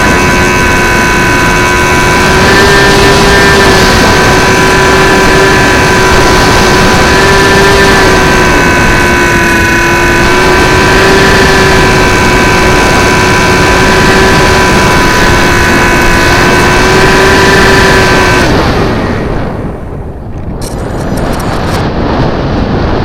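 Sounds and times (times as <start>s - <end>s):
electric motor and propeller whining: 0.0s - 23.0s
wind on microphone: 0.0s - 23.0s.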